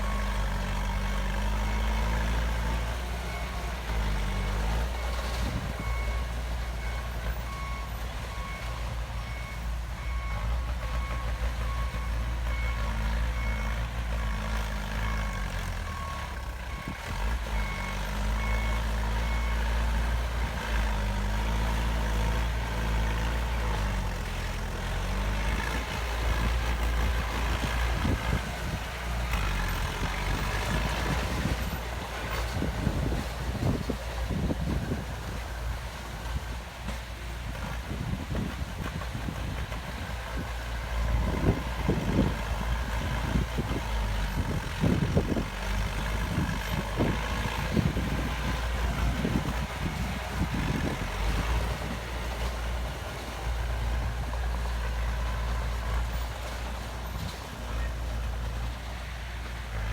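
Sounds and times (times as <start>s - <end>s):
diesel engine rumble: 0.0s - 59.9s.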